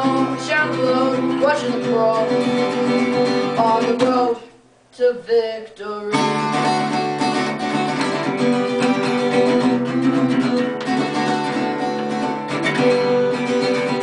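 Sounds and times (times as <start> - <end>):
acoustic guitar strumming chords: 0.0 - 4.6, 5.3 - 14.0.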